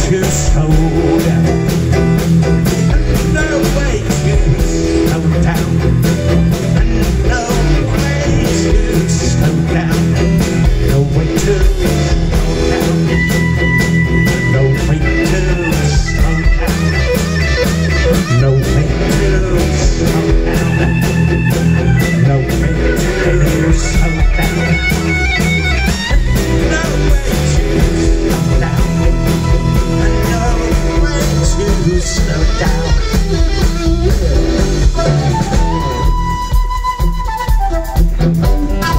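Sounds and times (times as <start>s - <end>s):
held high notes: 0.0s - 38.9s
rock band playing instrumental: 0.0s - 38.9s.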